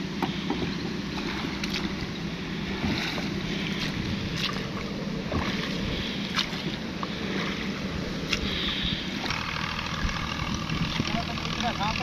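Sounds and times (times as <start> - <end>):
water wash: 0.0 - 12.0.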